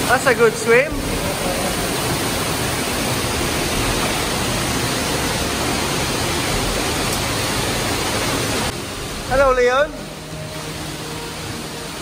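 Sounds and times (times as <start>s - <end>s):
flowing water in stream: 0.0s - 12.0s.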